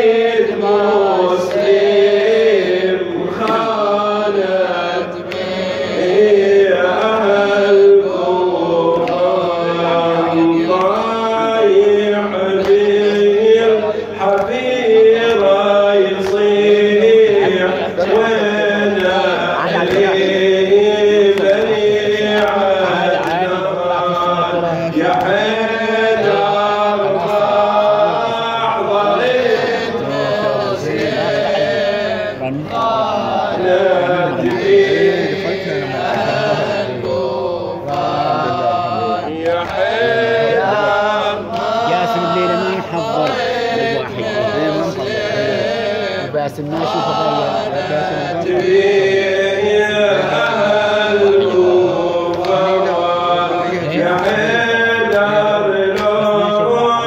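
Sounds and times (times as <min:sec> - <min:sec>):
man chanting a lament: 0:00.0 - 0:57.0.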